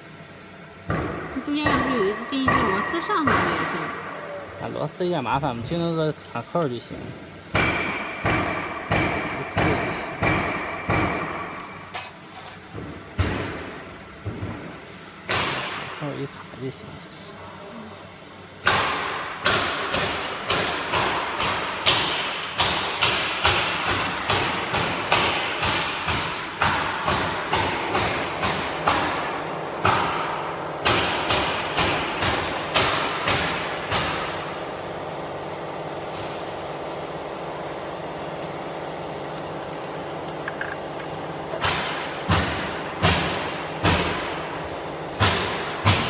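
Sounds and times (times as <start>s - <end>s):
steady machine hum: 0.0s - 46.0s.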